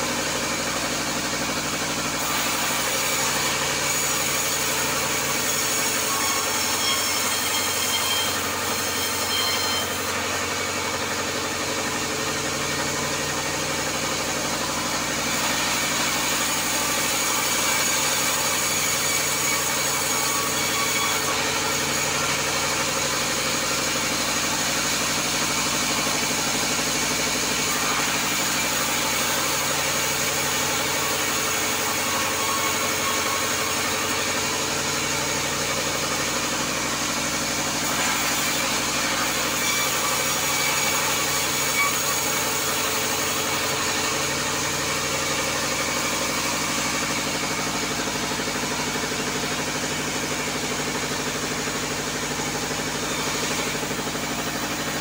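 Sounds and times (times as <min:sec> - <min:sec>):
band saw machinery droning: 0:00.0 - 0:55.0.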